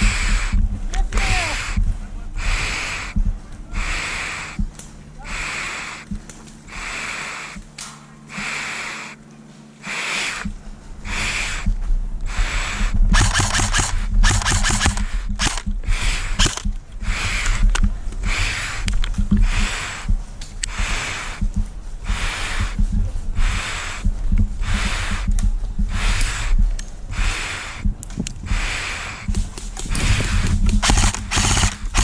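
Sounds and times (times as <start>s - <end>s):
microphone handling noise: 0.0s - 4.8s, 10.4s - 32.0s
person breathing hard: 0.0s - 7.7s, 8.3s - 9.2s, 9.8s - 32.0s
wind rumble: 0.0s - 32.0s.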